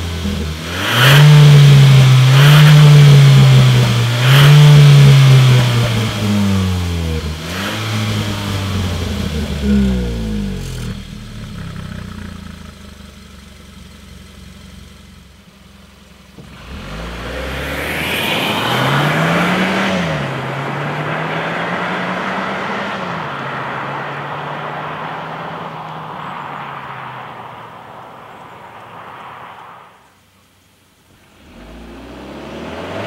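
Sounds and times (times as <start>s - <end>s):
car accelerating away: 0.0s - 29.9s, 31.2s - 33.0s
car engine idling: 0.0s - 31.4s.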